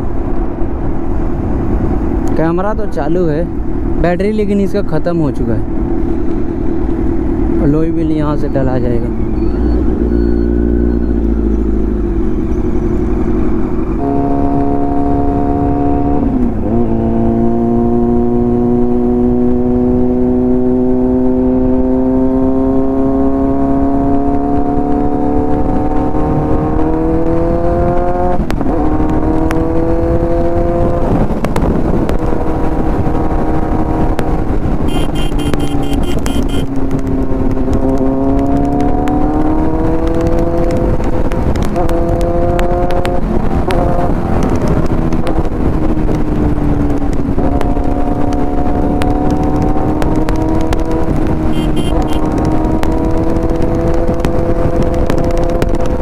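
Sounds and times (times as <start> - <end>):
wind noise: 0.0 - 56.0
motorcycle engine revving: 5.6 - 56.0.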